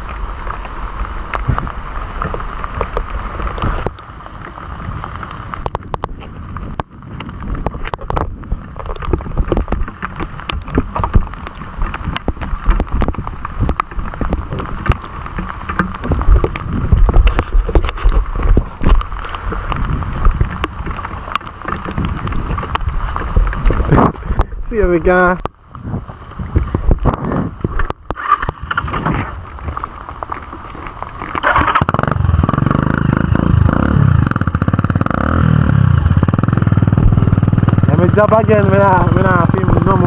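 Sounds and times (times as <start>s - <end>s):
heavy rain spattering on camera: 0.0s - 40.0s
wind buffeting microphone: 0.0s - 40.0s.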